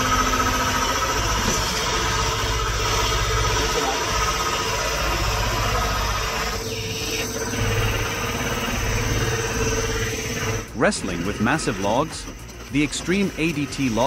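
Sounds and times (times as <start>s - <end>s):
log splitter engine droning: 0.0s - 14.0s.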